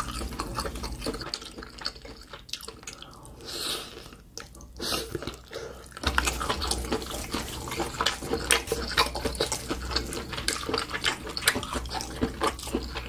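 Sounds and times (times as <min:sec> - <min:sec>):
mouth chewing clicks and smacks: 0:00.0 - 0:13.0.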